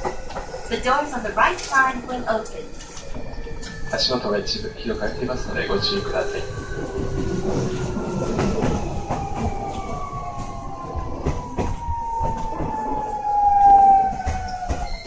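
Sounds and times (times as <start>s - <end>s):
train inverter whine: 0.0s - 15.0s
wheels clicking on rail joints: 0.0s - 15.0s.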